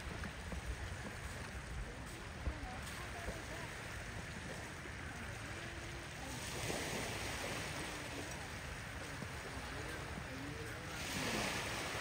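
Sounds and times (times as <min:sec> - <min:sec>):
surf washing onto beach: 0:00.0 - 0:12.0.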